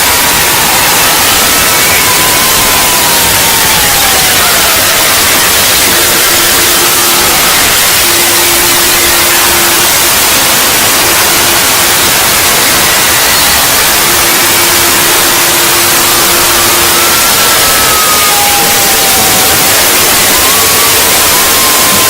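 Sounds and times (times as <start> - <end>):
static hiss: 0.0 - 21.9.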